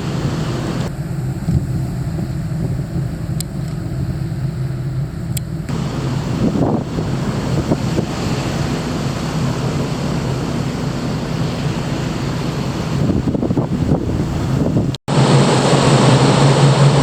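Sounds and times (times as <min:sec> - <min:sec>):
low engine drone: 0:00.0 - 0:17.0
rush of wind and water: 0:00.0 - 0:17.0.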